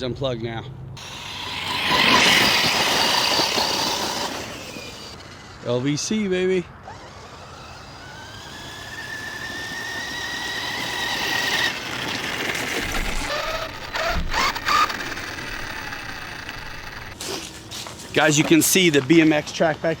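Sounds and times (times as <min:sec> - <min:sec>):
electric motor whining: 0:01.0 - 0:17.2.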